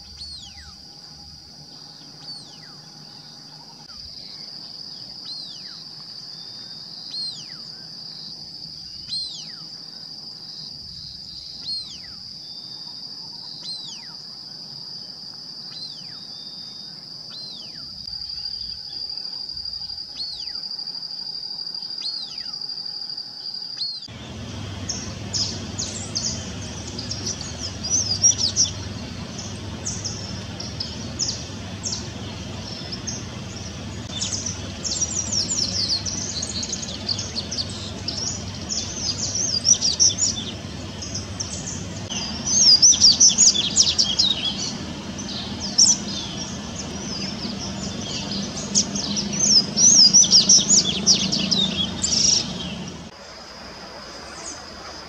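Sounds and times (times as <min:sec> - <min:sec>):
bird twittering song: 0:00.0 - 0:09.7, 0:10.5 - 0:14.2, 0:15.6 - 0:19.0, 0:19.7 - 0:20.6, 0:23.5 - 0:53.1.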